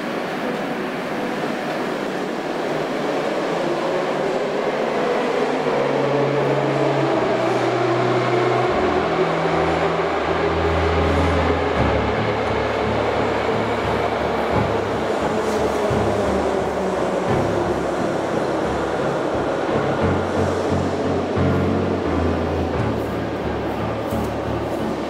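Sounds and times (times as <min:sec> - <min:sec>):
metro train rumbling: 0:00.0 - 0:25.0.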